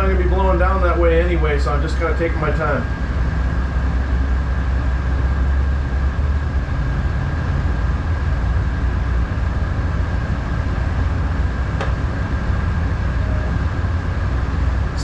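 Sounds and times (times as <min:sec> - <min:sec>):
diesel engine drone: 0:00.0 - 0:15.0
faint high whine: 0:00.0 - 0:15.0.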